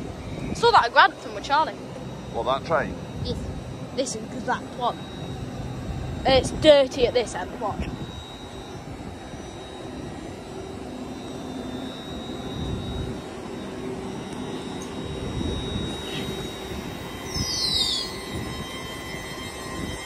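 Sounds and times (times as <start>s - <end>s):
electric train rumbling past: 0.0s - 20.0s
high falling squeal: 0.0s - 20.0s.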